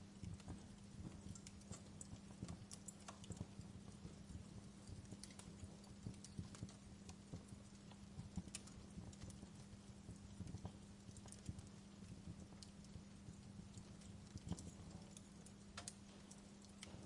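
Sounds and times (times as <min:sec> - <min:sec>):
campfire crackling: 0:00.0 - 0:17.0
low steady hum: 0:00.0 - 0:17.0.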